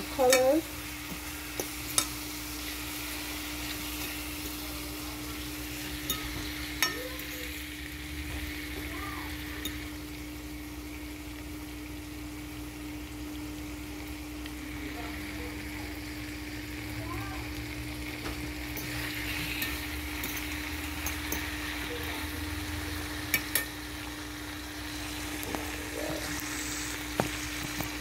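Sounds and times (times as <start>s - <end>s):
meat sizzling in oil: 0.0s - 28.0s.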